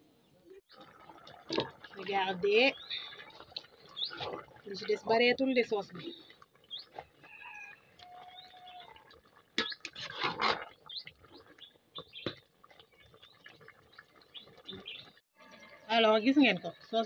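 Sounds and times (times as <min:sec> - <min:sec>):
metal ladle stirring in pot: 0:00.8 - 0:14.6.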